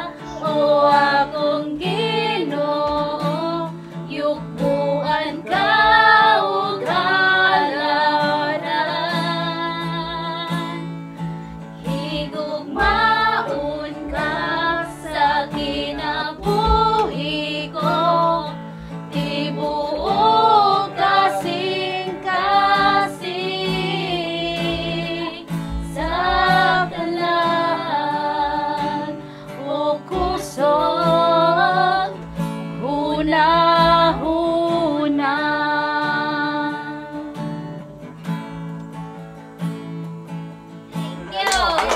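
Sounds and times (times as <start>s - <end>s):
woman singing: 0.0s - 11.0s, 11.8s - 37.5s, 41.1s - 41.9s
acoustic guitar strumming: 0.0s - 41.9s.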